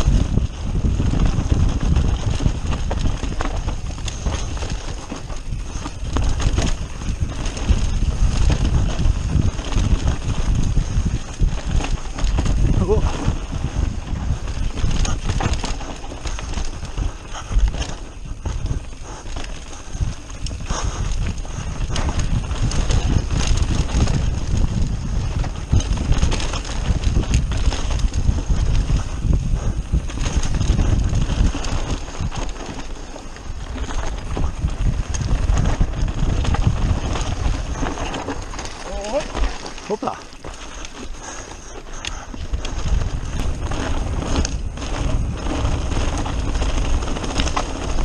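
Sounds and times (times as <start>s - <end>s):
bike rattling and knocking: 0.0s - 48.0s
tyre noise: 0.0s - 48.0s
wind buffeting microphone: 0.0s - 48.0s.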